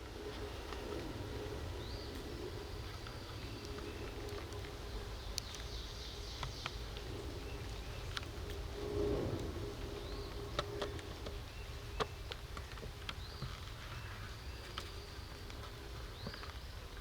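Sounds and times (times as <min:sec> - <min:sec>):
songbirds chirping: 0:00.0 - 0:17.0
wind rumble on microphone: 0:00.0 - 0:17.0.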